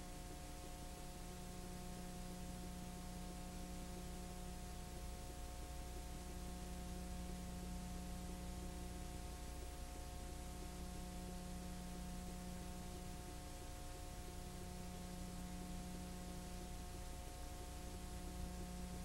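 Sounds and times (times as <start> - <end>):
constant hiss: 0.0 - 19.0
electrical hum with tones: 0.0 - 19.0.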